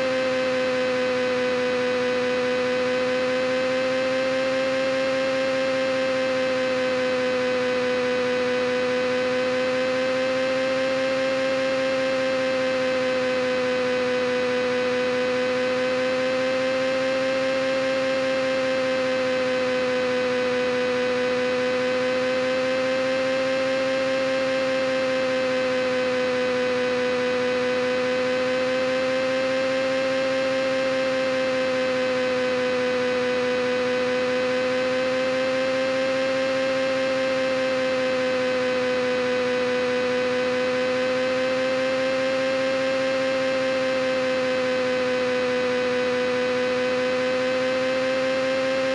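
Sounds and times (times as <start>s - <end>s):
electrical hum: 0.0s - 48.9s.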